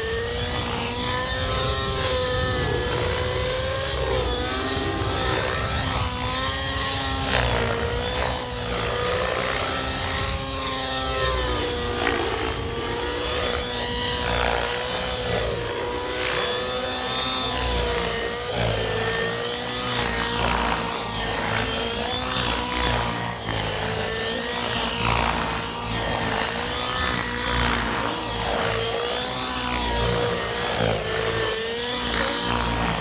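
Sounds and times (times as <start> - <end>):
helicopter rotor drive whine: 0.0 - 33.0
rotor blades whooshing: 0.0 - 33.0.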